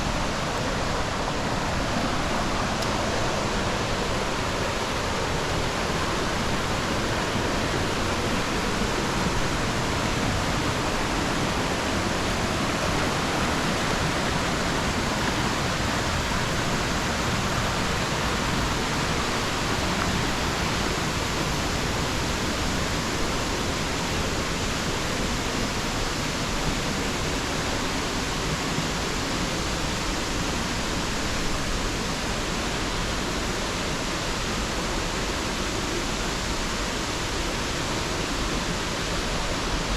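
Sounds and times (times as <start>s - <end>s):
waterfall rushing onto rocks: 0.0s - 39.9s.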